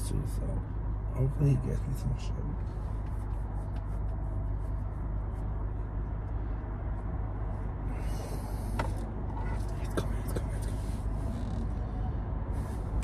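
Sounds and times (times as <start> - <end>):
low hum inside car cabin: 0.0 - 13.0.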